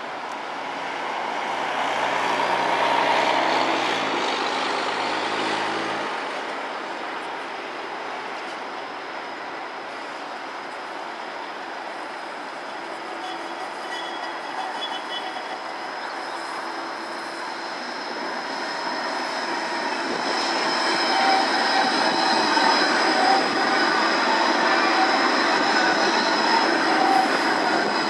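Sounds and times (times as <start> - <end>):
tram running noise: 0.0 - 28.0
tram wheels squealing: 0.8 - 28.0.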